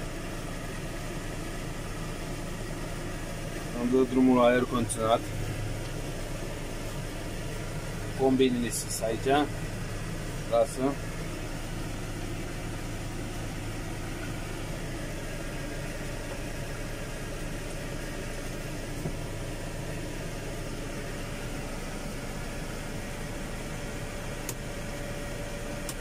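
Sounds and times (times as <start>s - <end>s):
air-conditioning fan blowing: 0.0s - 26.0s
tractor diesel engine running: 0.0s - 26.0s.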